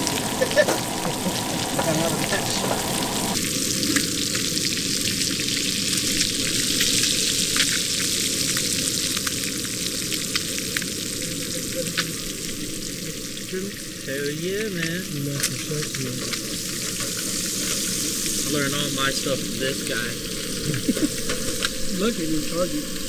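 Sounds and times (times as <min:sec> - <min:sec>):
fish sizzling in a frying pan: 0:00.0 - 0:23.0.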